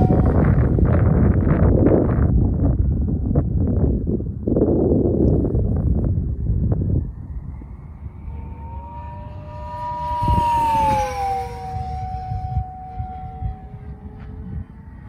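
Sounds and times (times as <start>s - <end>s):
rc plane propeller whine: 0.0s - 15.0s.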